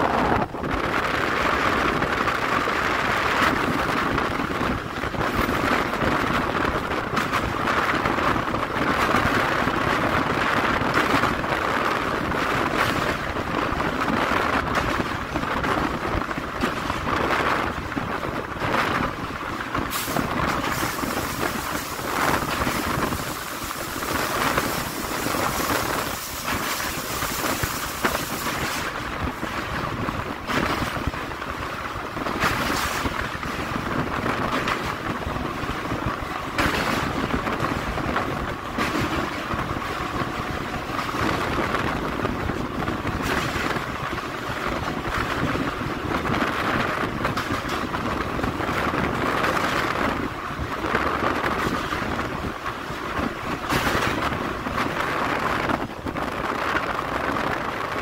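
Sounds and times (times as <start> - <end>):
train wheels rumbling on rails: 0.0 - 58.0
wind rushing past microphone: 0.0 - 58.0.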